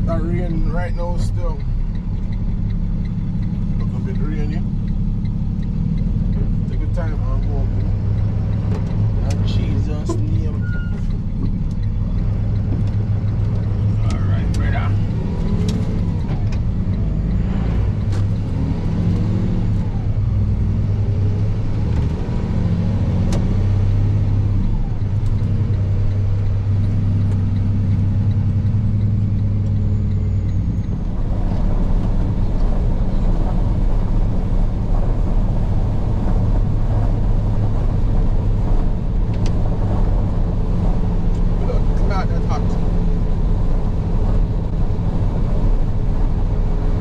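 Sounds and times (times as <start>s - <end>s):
road noise: 0.0s - 47.0s
truck diesel engine droning: 0.0s - 47.0s.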